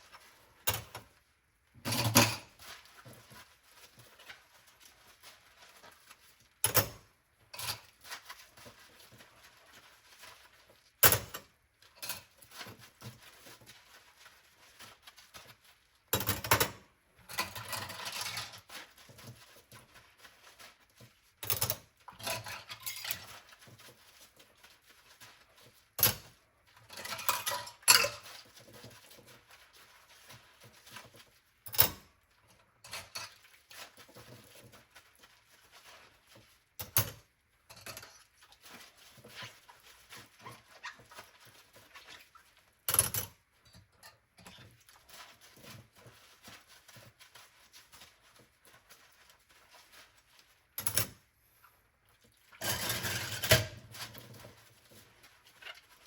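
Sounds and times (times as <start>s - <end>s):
washing dishes in sink: 0.0s - 56.0s.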